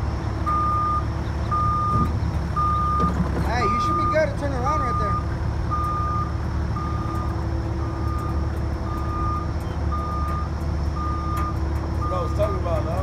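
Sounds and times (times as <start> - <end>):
diesel engine running: 0.0 - 13.0
backup alarm beeping: 0.5 - 12.4.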